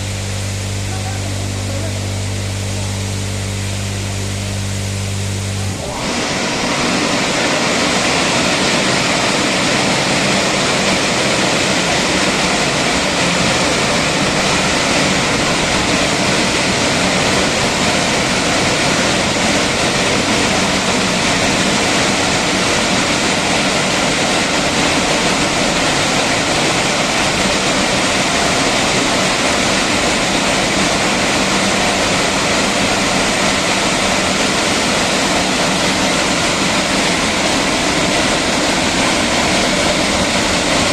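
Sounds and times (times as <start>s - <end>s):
faint machine hum: 0.0s - 40.9s
rush of water spray: 0.0s - 40.9s.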